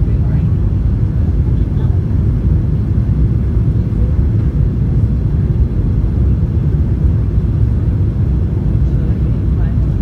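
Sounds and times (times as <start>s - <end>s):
jet engines rumbling: 0.0s - 10.0s
rushing airflow: 0.0s - 10.0s.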